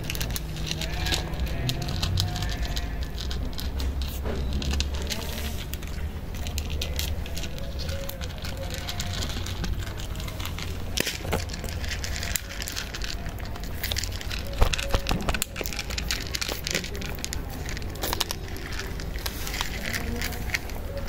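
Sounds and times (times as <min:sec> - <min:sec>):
cats crunching dry kibble: 0:00.0 - 0:21.0.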